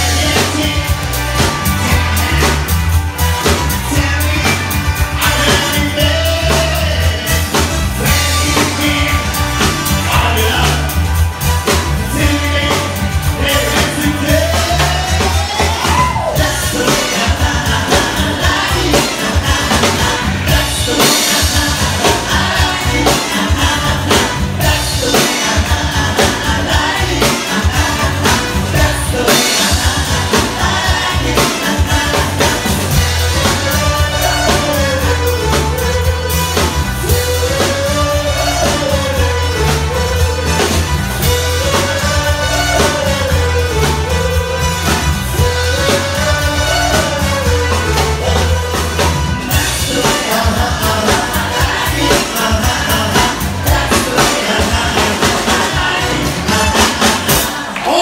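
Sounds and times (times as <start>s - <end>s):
pop-dance band music: 0.0s - 58.0s
person singing: 3.4s - 11.1s, 12.0s - 58.0s.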